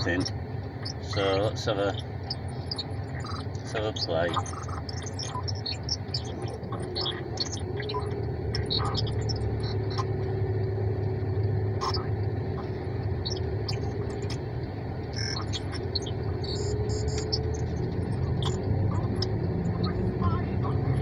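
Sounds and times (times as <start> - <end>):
faint steady whine: 0.0 - 21.0
low hum in car cabin: 0.0 - 21.0.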